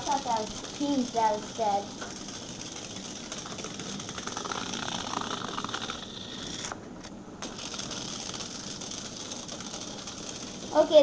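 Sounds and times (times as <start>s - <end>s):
vibrating toy bug buzzing and rattling: 0.0s - 6.8s, 7.4s - 11.0s.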